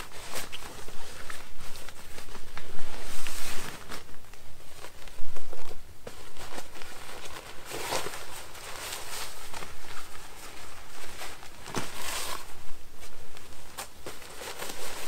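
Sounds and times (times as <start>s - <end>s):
hammock fabric rustling: 0.0s - 15.0s.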